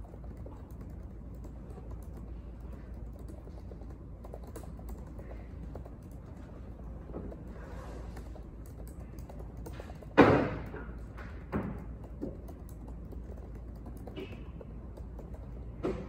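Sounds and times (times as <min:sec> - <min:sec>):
laptop keyboard typing: 0:00.0 - 0:16.0
room hum: 0:00.0 - 0:16.0.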